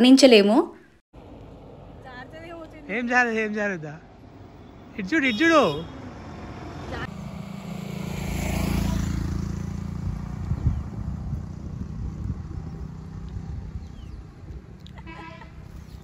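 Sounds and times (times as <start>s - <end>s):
vehicle passing: 1.2s - 16.0s.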